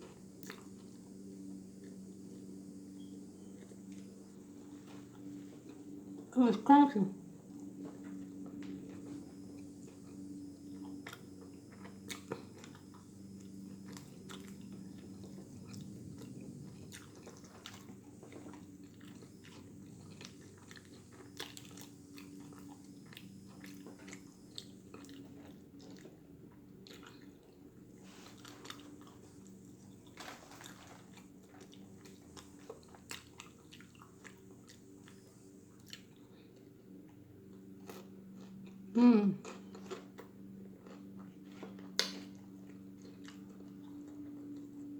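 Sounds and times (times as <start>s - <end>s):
close-up chewing with crisp crunches: 0.0s - 44.9s.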